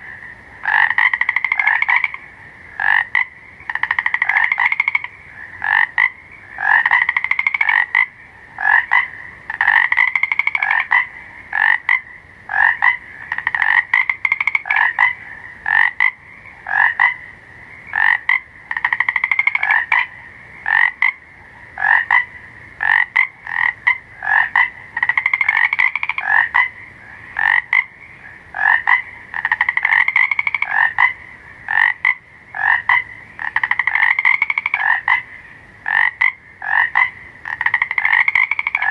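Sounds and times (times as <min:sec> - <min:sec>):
frogs croaking: 0:00.0 - 0:38.9.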